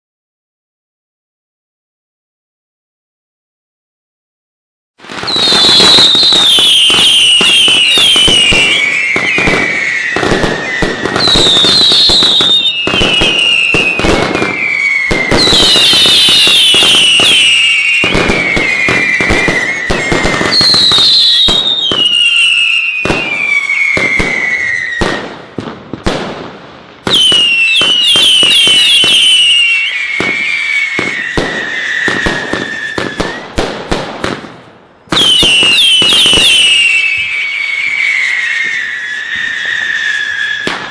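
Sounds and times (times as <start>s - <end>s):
fireworks pops and crackling: 5.0s - 40.9s
fireworks screaming whistles: 5.0s - 40.9s.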